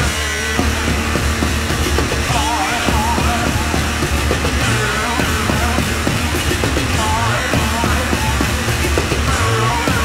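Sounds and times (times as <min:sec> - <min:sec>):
distorted bass guitar: 0:00.0 - 0:10.0
distorted yelled vocal: 0:00.0 - 0:10.0
rapid dense drumming: 0:00.0 - 0:10.0.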